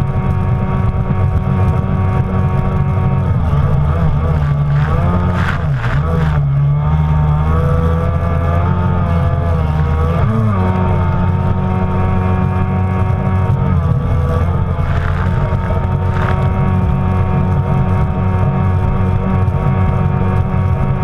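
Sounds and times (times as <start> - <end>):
jet ski engine running hard: 0.0 - 21.0.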